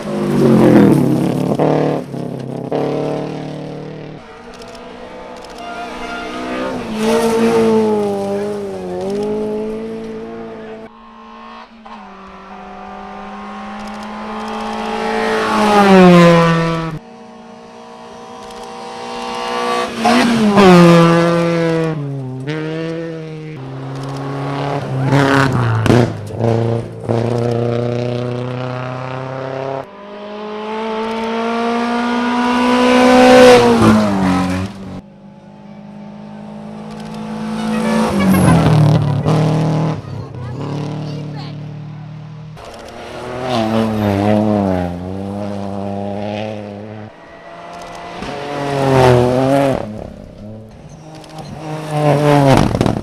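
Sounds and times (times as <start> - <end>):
exhaust cracks: 0.0 - 17.0, 18.0 - 30.0, 30.7 - 53.0
gear shifts: 0.0 - 53.0
rally cars passing at speed: 0.0 - 53.0.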